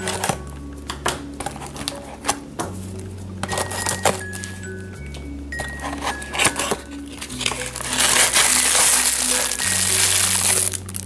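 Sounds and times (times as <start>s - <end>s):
plastic wrapping crinkling: 0.0s - 2.4s, 3.4s - 11.0s
background music: 0.0s - 11.0s.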